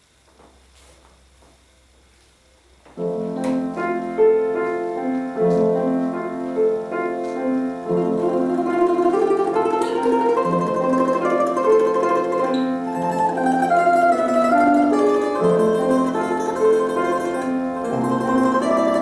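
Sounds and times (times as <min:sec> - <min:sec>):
slow piano piece: 0:02.9 - 0:19.0.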